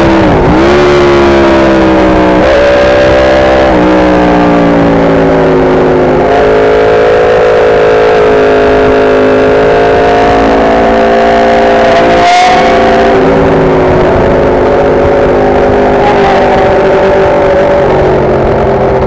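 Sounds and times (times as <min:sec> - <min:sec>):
motorcycle engine accelerating: 0:00.0 - 0:19.0
rushing wind noise: 0:00.0 - 0:19.0.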